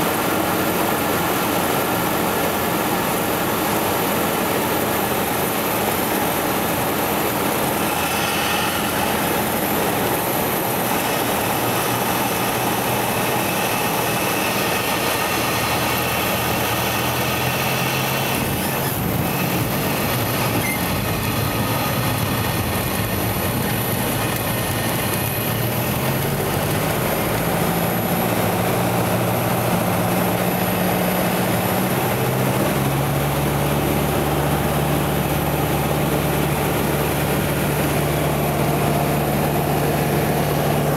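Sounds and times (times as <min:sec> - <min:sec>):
constant rushing noise: 0:00.0 - 0:40.9
plane engine and propeller: 0:00.0 - 0:40.9.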